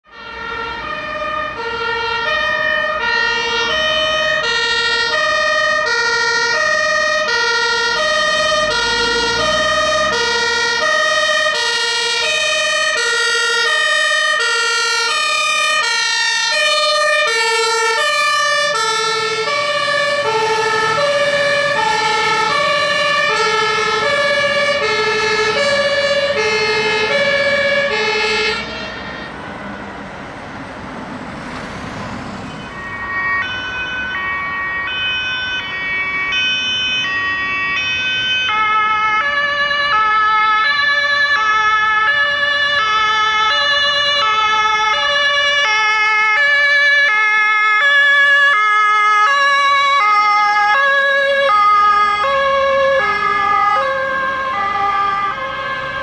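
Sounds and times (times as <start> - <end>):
two-tone fire engine sirens: 0.0 - 56.0.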